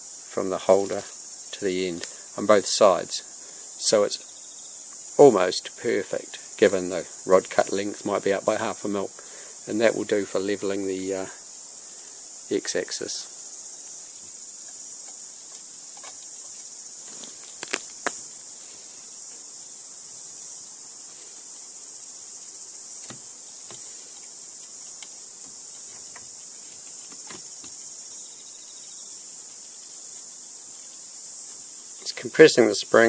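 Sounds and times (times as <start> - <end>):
cicadas buzzing: 0.0 - 33.0.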